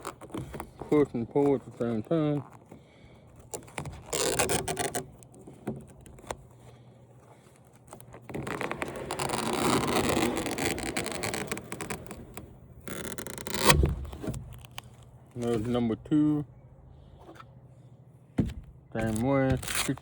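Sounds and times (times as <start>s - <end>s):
scraping and rasping: 0.0s - 15.9s, 18.4s - 20.0s.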